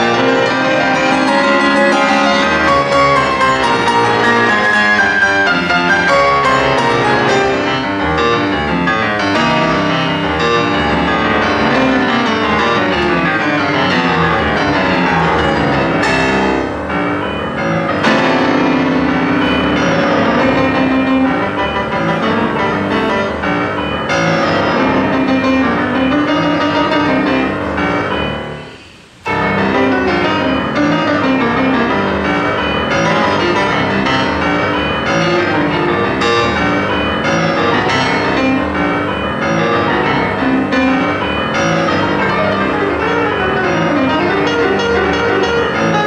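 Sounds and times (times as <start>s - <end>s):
grand piano playing: 0.0s - 46.0s.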